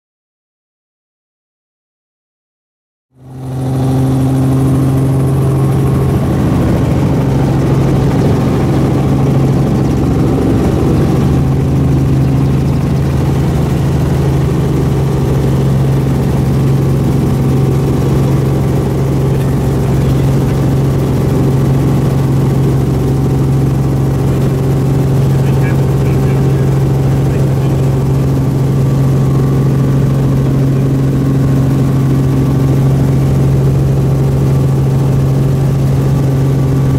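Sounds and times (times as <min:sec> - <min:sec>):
helicopter drone: 0:03.2 - 0:36.9.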